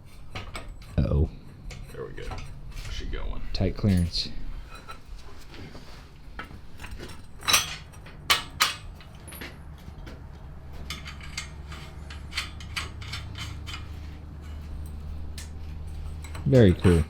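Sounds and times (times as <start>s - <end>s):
metal clinks and knocks: 0.0s - 3.1s, 6.4s - 17.0s
steady low hum: 0.0s - 17.0s.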